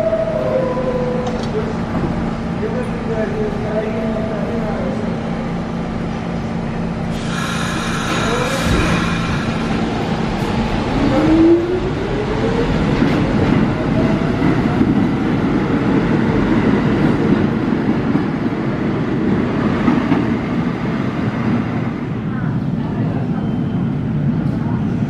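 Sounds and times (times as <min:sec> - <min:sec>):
train wheels rumbling on rails: 0:01.2 - 0:25.0.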